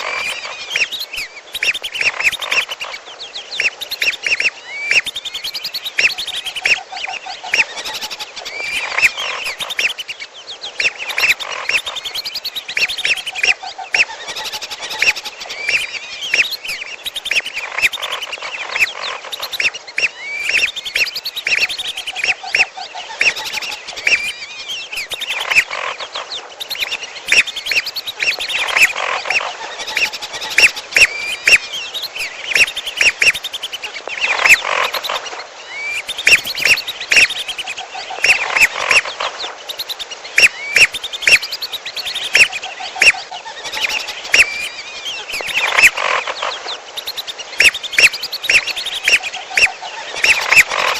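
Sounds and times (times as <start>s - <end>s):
bird calls with clicky notes: 0.0s - 10.2s, 10.8s - 50.9s
ducks whistling: 0.0s - 50.9s.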